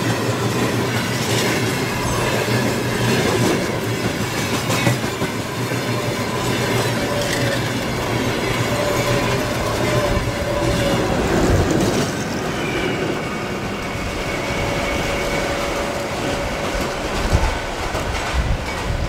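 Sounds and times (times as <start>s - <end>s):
electric locomotive passing: 0.0s - 19.0s
freight train wagons rumbling and clattering: 0.0s - 19.0s.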